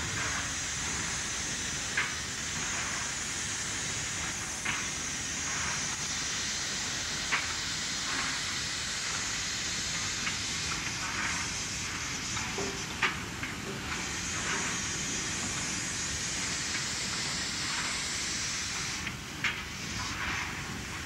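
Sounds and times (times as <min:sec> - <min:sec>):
steam hissing: 0:00.0 - 0:21.0.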